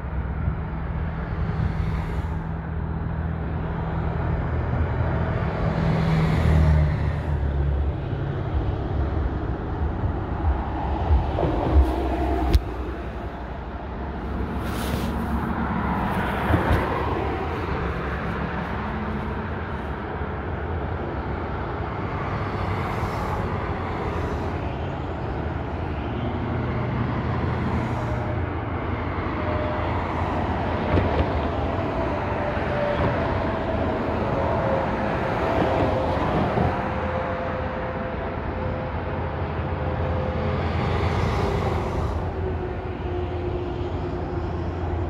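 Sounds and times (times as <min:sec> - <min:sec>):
highway traffic: 0:00.0 - 0:45.0.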